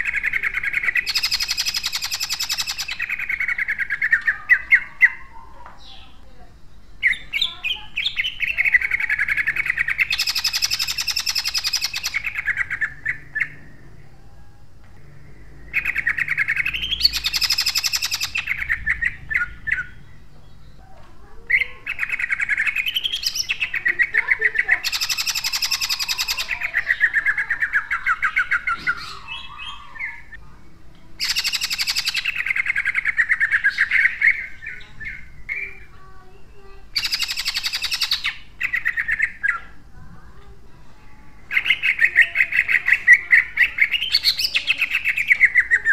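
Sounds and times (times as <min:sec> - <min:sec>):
bird singing fast trills: 0:00.0 - 0:14.4, 0:15.0 - 0:30.4, 0:31.2 - 0:40.0, 0:41.0 - 0:45.9.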